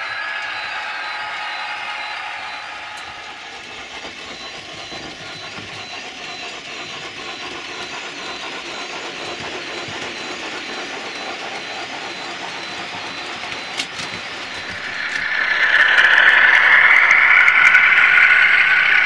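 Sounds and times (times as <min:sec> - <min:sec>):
locomotive engine sounds: 0:00.0 - 0:19.0
model train motors whirring: 0:00.0 - 0:19.0.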